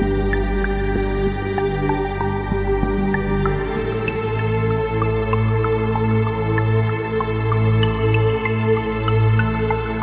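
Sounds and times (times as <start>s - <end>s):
new-age background music: 0.0s - 10.0s.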